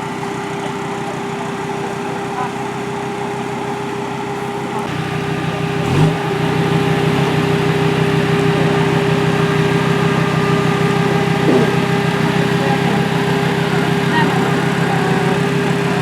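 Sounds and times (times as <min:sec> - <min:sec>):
rally car engine idling: 0:00.0 - 0:16.0.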